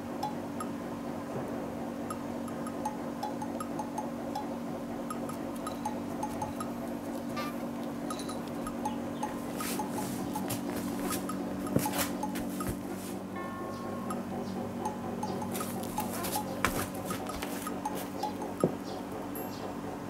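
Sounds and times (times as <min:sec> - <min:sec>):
playful bell-like music: 0:02.1 - 0:20.0.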